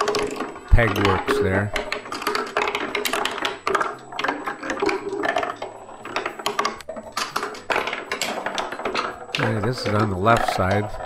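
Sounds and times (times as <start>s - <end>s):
marbles clattering on wooden chutes: 0.0s - 11.0s.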